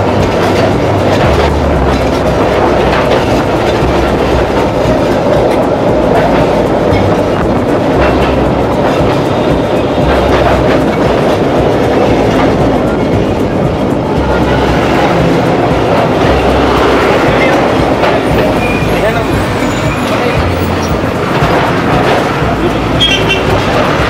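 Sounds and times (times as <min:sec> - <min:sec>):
tram rattle and rumble: 0:00.0 - 0:24.0
tram wheels clicking and knocking: 0:00.0 - 0:24.0.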